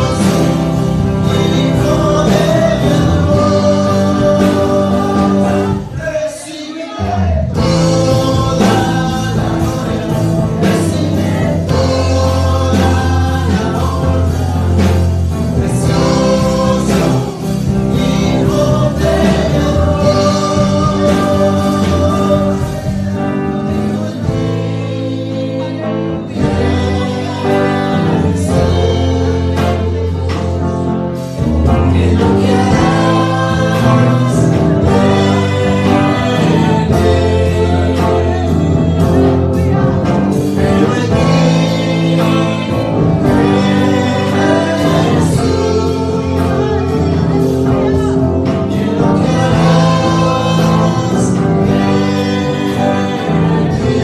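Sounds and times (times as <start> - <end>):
gospel music accompaniment: 0.0 - 54.0
man singing: 0.0 - 54.0.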